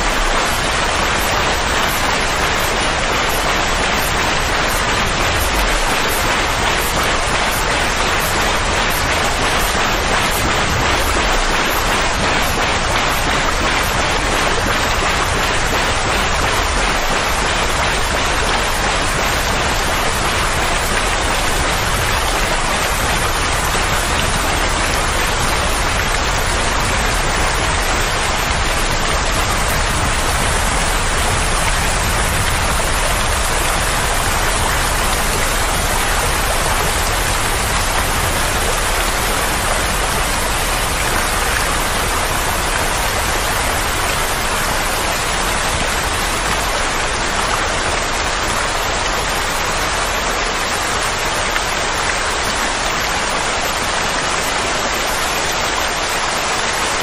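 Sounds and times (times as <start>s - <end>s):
rain-like hiss: 0.0s - 57.0s.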